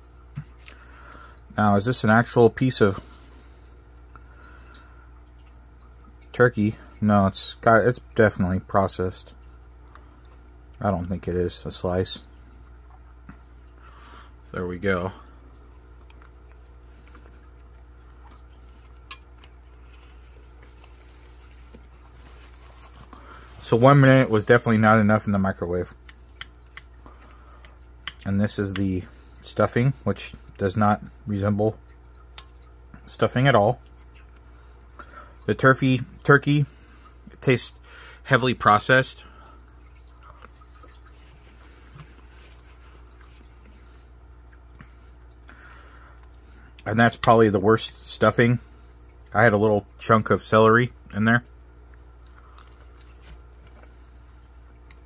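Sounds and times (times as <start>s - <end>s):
faint low hum: 0.0s - 55.0s.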